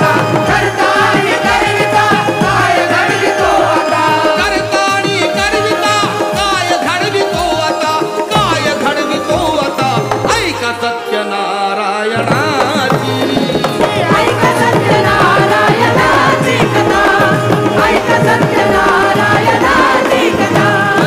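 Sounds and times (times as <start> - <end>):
fast hand-drum rhythm: 0.0 - 11.0, 12.2 - 21.0
instrumental melody: 0.0 - 21.0.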